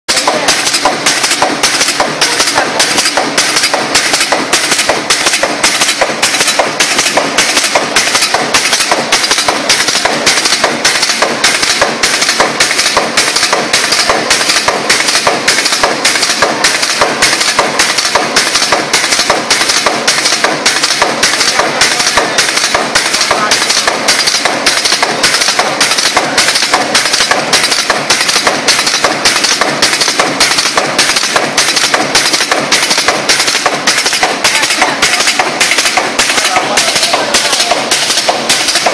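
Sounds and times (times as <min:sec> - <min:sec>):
continuous machine din: 0:00.1 - 0:38.9
press stamping clatter: 0:00.1 - 0:38.9.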